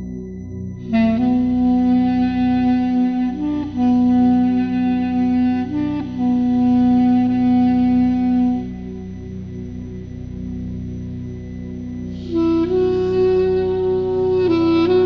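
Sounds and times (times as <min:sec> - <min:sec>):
low drone: 0:00.0 - 0:15.0
melody instrument long notes: 0:00.0 - 0:15.0.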